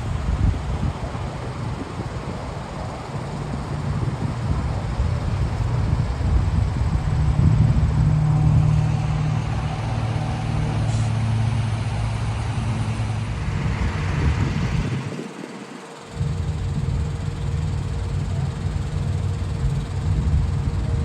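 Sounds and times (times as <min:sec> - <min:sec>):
noisy hiss: 0:00.0 - 0:21.0
vehicle engine rumbling: 0:00.0 - 0:21.0.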